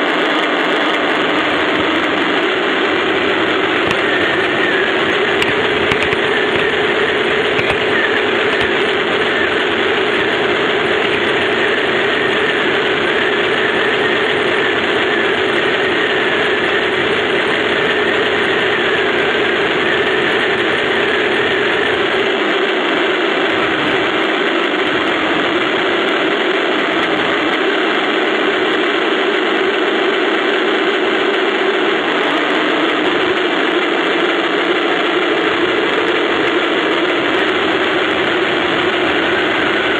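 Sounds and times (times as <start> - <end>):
faint wavering whine: 0.0 - 39.9
model tank running: 0.8 - 39.9.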